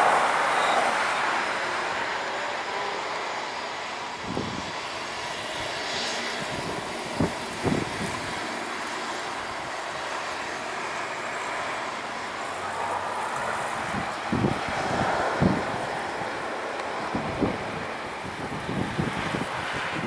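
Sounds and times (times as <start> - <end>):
jet engines hissing and humming: 0.0 - 20.0.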